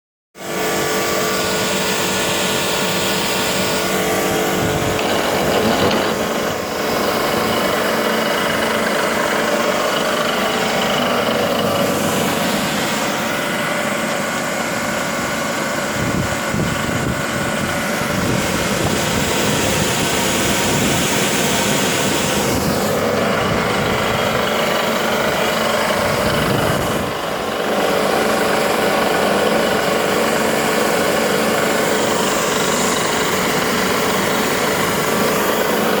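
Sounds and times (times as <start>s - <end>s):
washing machine humming: 0.5s - 36.0s.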